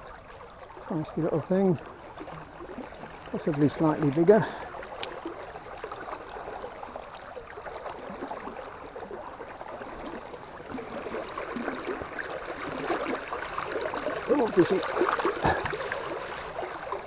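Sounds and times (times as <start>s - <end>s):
river water babbling: 0.0s - 17.0s.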